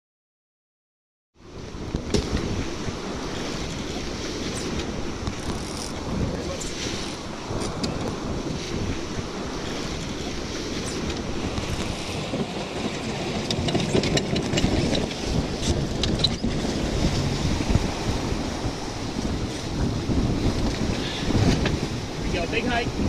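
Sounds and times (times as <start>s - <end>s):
water rushing along hull: 1.4s - 23.0s
wind buffeting microphone: 1.4s - 23.0s.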